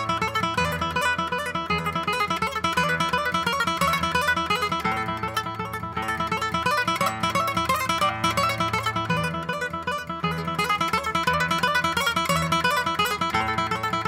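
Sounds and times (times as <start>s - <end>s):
fingerpicked classical guitar: 0.0s - 14.0s.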